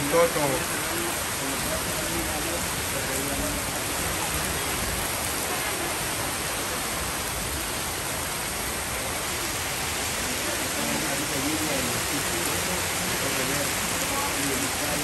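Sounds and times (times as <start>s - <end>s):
rain falling on trees and paving: 0.0s - 15.0s.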